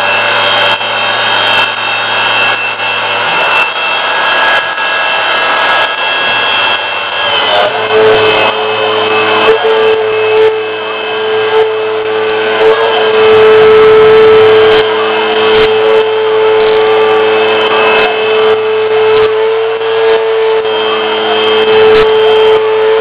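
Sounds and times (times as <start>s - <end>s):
gritty metal cutting noise: 0.0s - 23.0s
spindle whine: 0.0s - 23.0s.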